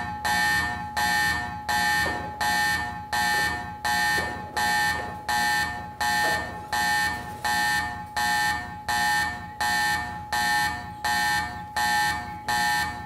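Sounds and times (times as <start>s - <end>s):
alarm buzzer pulsing: 0.0s - 13.0s.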